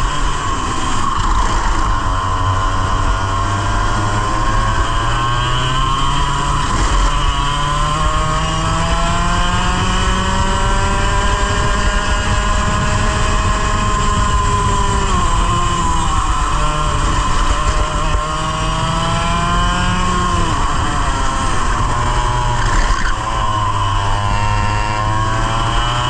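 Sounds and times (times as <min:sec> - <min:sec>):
kart engine at full throttle: 0:00.0 - 0:26.0.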